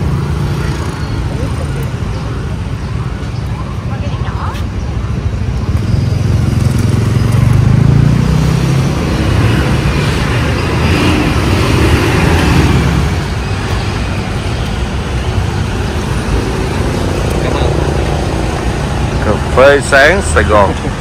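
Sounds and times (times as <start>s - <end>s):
passing vehicle engines and tyres: 0.0s - 21.0s.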